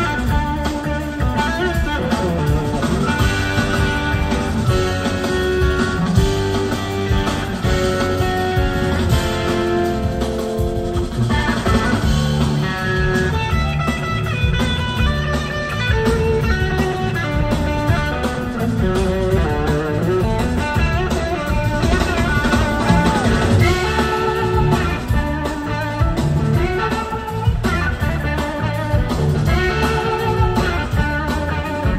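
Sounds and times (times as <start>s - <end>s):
electric slide guitar: 0.0s - 31.9s
live blues-rock band: 0.0s - 31.9s.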